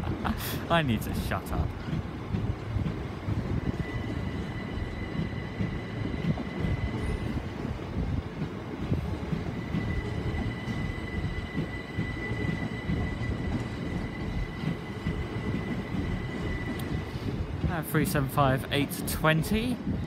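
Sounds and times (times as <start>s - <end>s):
electric train whine: 0.0s - 20.0s
wheels rumbling on rails: 0.0s - 20.0s.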